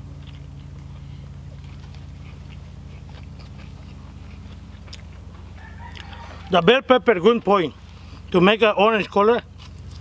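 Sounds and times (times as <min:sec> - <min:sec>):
people chewing: 0:00.0 - 0:10.0
steady low hum: 0:00.0 - 0:10.0.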